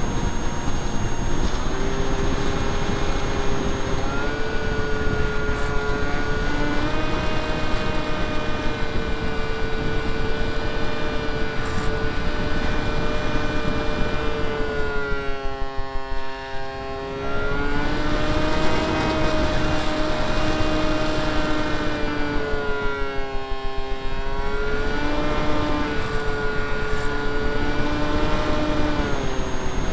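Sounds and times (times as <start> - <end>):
electric motor and propeller whine: 0.0 - 29.9
wind rush on microphone: 0.0 - 29.9.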